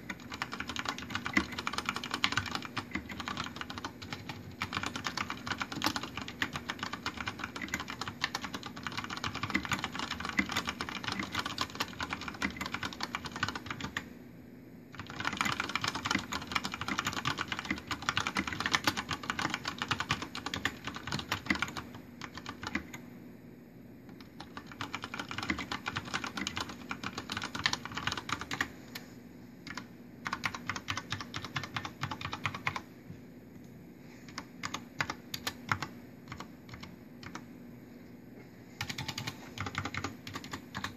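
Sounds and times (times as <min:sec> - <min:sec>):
mechanical keyboard typing: 0:00.0 - 0:14.1, 0:15.0 - 0:23.0, 0:24.2 - 0:28.7, 0:29.7 - 0:32.9, 0:34.3 - 0:37.5, 0:38.8 - 0:40.9.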